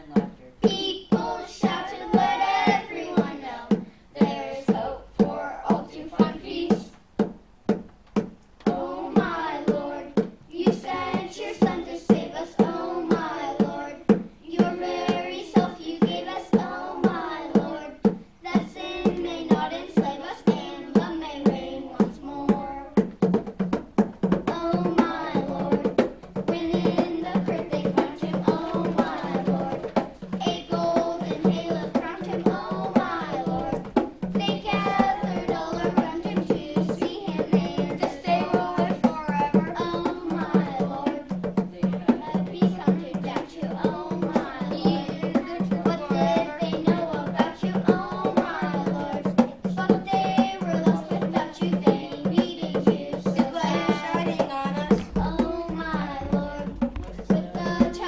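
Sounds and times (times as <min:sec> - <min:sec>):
children singing: 0:00.0 - 0:06.9, 0:08.7 - 0:23.0, 0:24.5 - 0:58.0
music with drum beat: 0:00.0 - 0:58.0.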